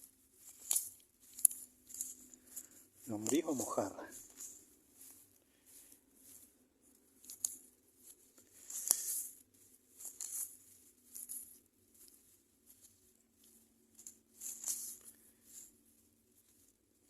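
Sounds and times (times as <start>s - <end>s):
rustling and scraping of soil: 0.0s - 17.0s.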